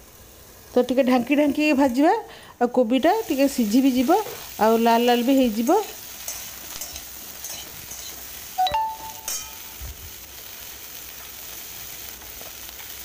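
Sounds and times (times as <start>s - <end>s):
cauliflower sizzling in oil: 0.0s - 13.0s.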